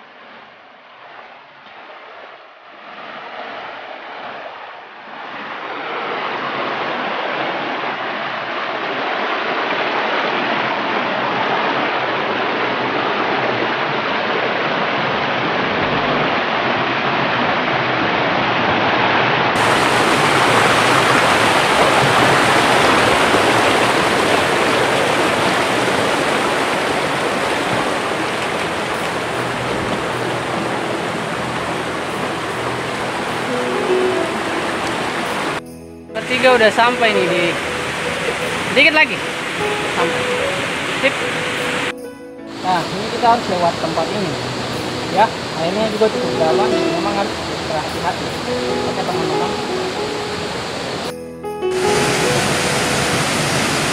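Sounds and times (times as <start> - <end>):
stream splashing over boulders: 1.0 - 35.6, 36.2 - 53.9.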